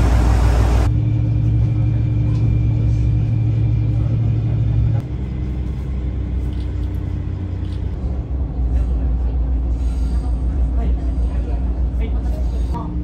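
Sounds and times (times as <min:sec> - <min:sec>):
constant hum: 0:00.0 - 0:13.0
railcar engine rumble: 0:00.0 - 0:13.0.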